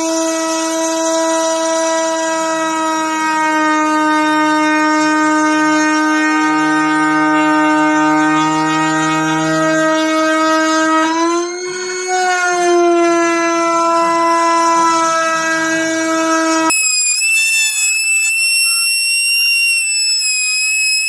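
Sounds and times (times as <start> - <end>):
router spindle high whine: 0.0 - 21.0.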